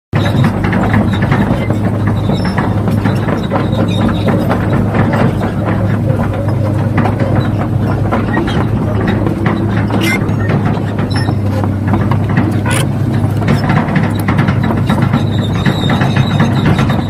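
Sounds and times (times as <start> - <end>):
clatter of small clicks and rattles: 0.2 - 17.0.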